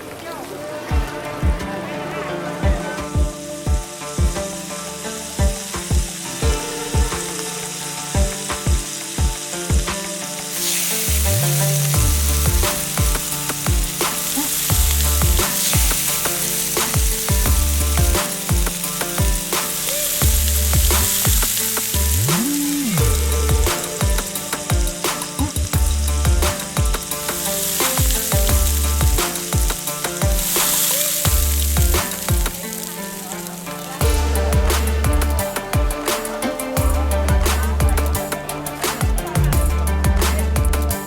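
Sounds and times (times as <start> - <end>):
food sizzling in a pan: 0.1 - 41.0
electronic music with kick drum: 0.9 - 1.8, 2.6 - 33.1, 33.9 - 41.0.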